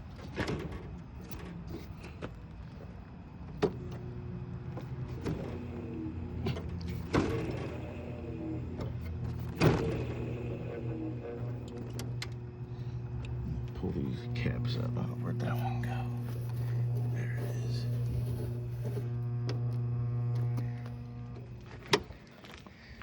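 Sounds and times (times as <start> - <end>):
low steady hum: 1.2 - 23.0.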